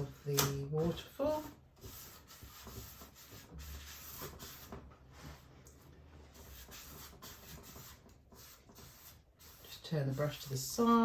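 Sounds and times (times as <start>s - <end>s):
paintbrush scrubbing on canvas: 0.0s - 5.5s, 6.3s - 11.0s.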